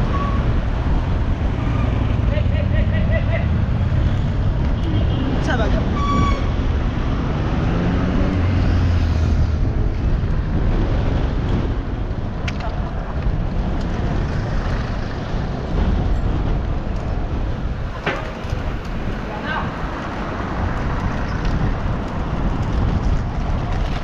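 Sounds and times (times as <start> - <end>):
city traffic: 0.0 - 24.0
wind on microphone: 0.0 - 24.0.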